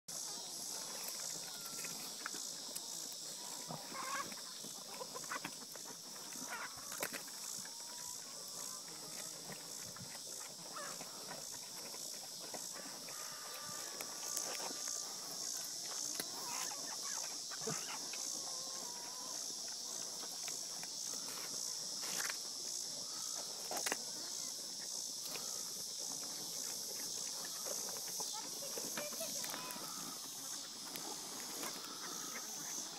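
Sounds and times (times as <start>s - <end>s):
pig chewing: 0.5s - 32.8s.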